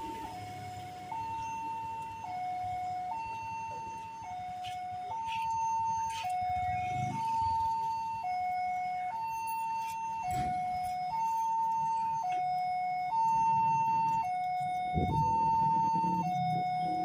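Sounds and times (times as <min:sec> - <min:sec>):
level crossing two-tone alarm: 0:00.0 - 0:17.0.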